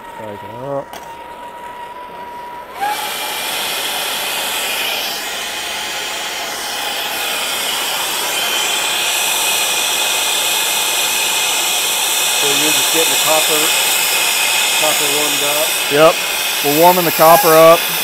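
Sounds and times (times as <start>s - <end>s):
torch flame hissing: 2.8s - 18.0s.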